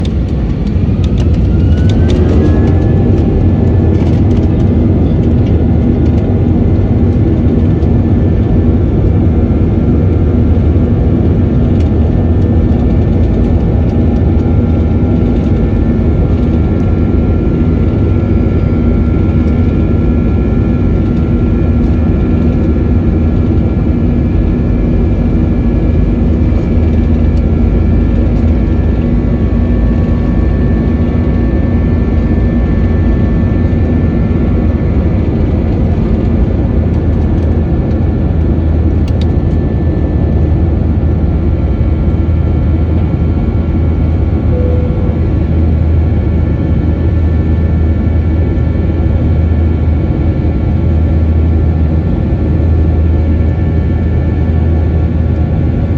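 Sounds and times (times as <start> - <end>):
engine fan whine: 0.0 - 55.9
jet engines rumbling from cabin: 0.0 - 55.9.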